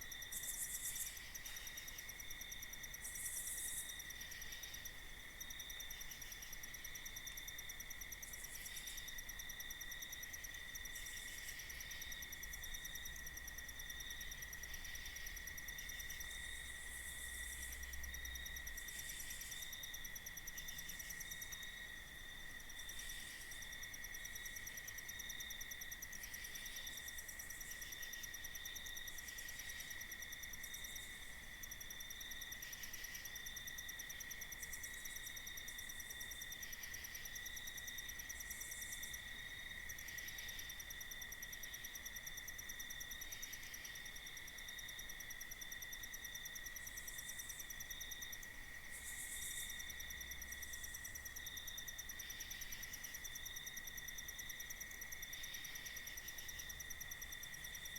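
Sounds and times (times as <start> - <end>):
crickets trilling: 0.0 - 57.9.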